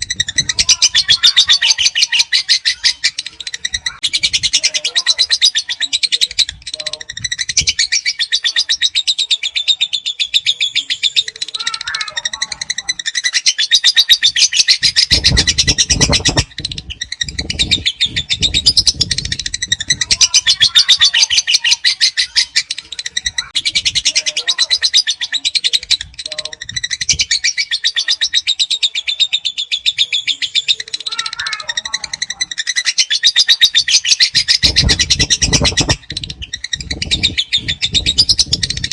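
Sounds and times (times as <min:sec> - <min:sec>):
lovebird chattering song: 0:00.0 - 0:38.9.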